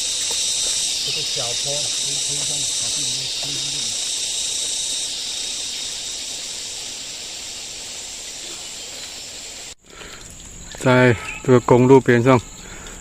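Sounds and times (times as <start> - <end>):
insect chorus buzzing: 0.0 - 13.0.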